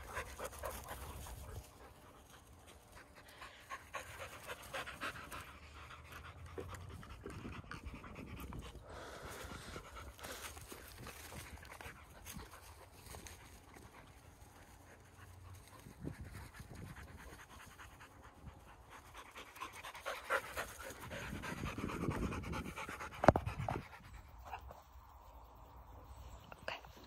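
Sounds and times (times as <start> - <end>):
dogs panting: 0.0 - 27.0.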